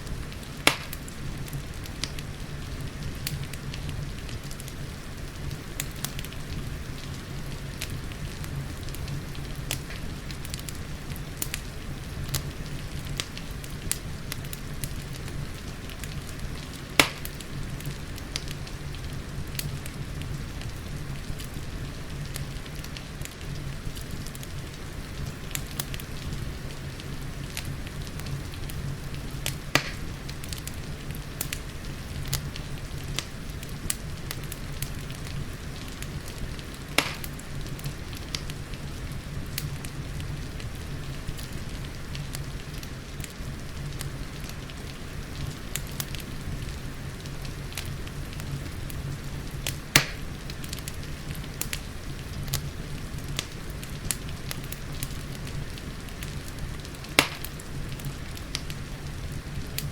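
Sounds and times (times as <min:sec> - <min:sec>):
rain: 0:00.0 - 0:59.9
wood fire crackling: 0:00.0 - 0:59.9.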